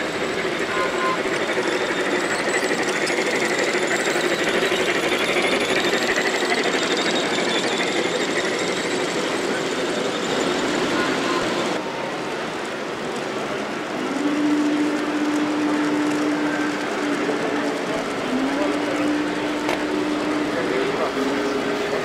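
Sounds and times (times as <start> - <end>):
model train wheels rattling: 0.0 - 11.2, 12.7 - 22.0.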